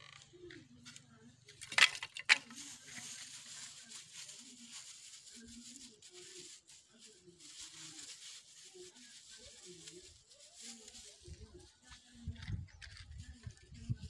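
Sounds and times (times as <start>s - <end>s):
dry plant material tearing: 1.6s - 13.6s.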